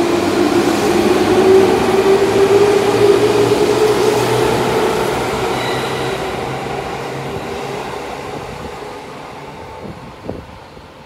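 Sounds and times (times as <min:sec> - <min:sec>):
electric train pulling away: 0:00.0 - 0:10.8.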